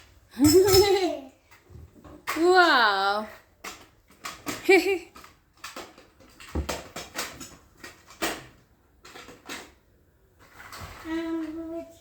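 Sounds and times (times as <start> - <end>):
plastic toy cars clattering: 0.4 - 12.0.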